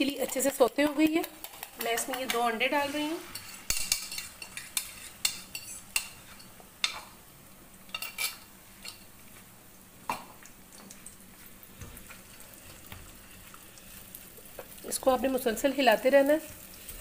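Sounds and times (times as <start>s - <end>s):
eggs sizzling in oil: 0.0s - 17.0s.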